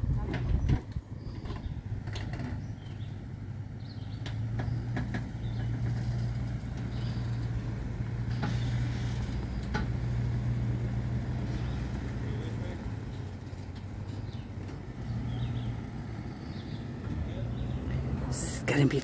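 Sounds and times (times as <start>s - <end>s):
vehicle engine under load: 0.0s - 19.0s.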